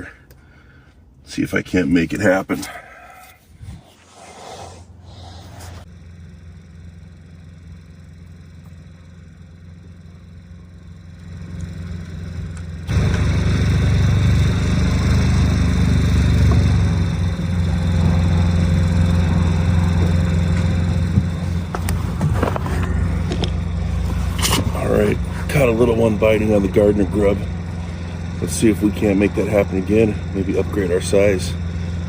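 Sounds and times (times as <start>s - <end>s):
motor humming: 4.8s - 32.0s.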